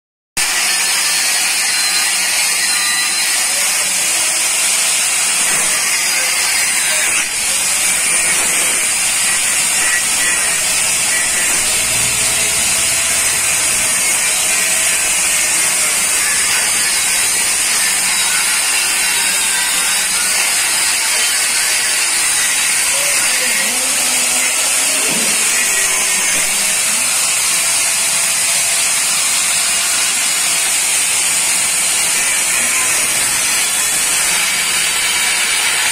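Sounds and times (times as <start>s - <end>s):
angle grinder grinding iron: 0.4s - 35.9s.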